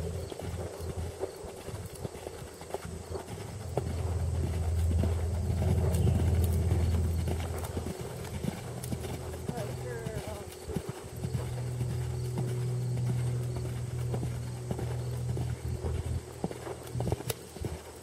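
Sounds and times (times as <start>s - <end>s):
hoofbeats on sand: 0.0s - 18.0s
steady low rumble: 0.0s - 18.0s.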